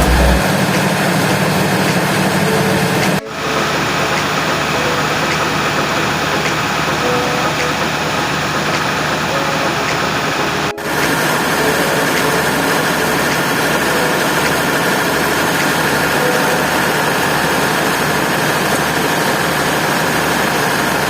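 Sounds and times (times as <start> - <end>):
faint steady tones: 0.0 - 20.6
diesel engine running: 0.0 - 21.0.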